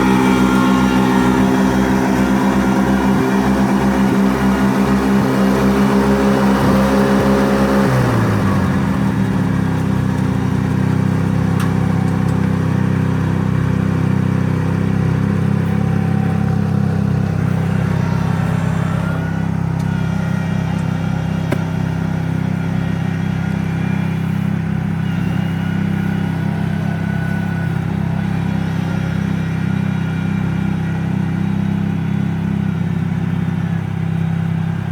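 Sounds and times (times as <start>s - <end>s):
transplanter engine running: 0.0s - 34.9s.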